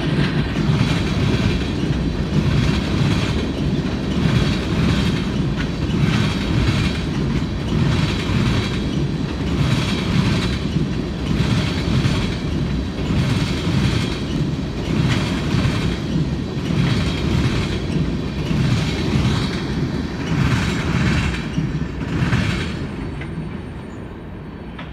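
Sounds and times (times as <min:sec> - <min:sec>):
train wheels clattering over rail joints: 0:00.0 - 0:24.0
train rumble: 0:00.0 - 0:24.9.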